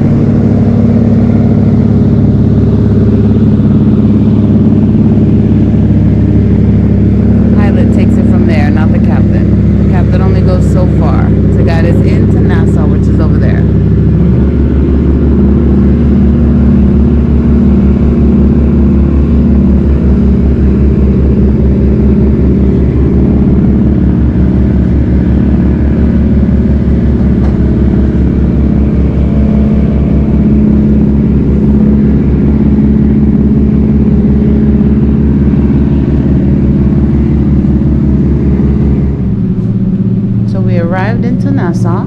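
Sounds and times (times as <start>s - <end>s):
marine diesel engines droning: 0.0s - 42.0s.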